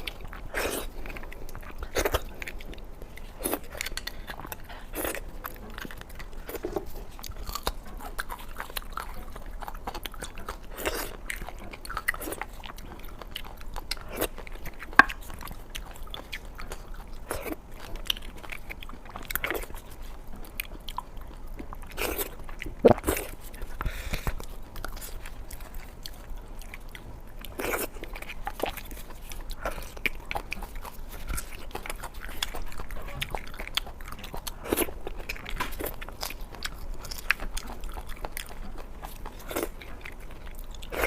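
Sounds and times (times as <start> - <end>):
person biting and chewing food: 0.0 - 41.0.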